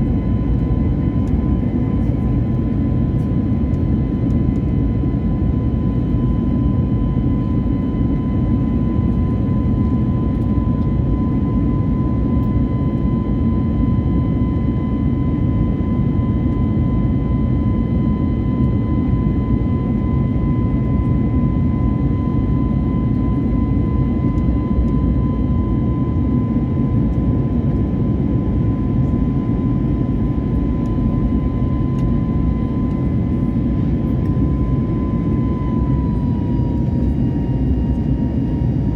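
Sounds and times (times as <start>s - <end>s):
jet engine rumble and whine: 0.0s - 38.9s.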